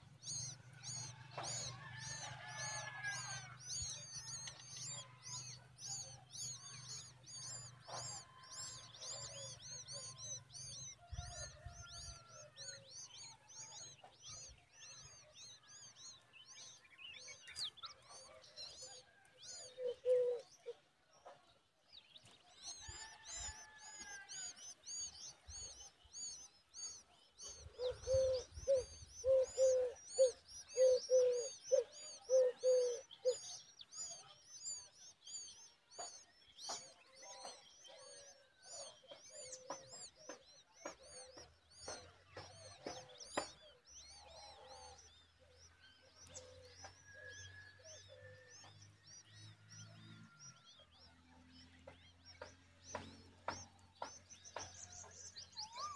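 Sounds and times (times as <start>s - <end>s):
nestlings begging chirps: 0.0s - 21.2s, 21.9s - 55.9s.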